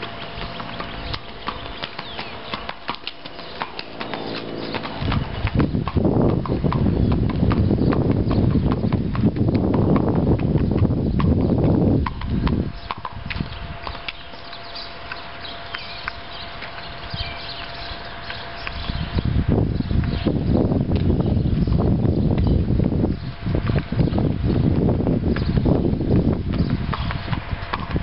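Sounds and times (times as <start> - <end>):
horse hoofbeats on hard lane: 0.0 - 28.0.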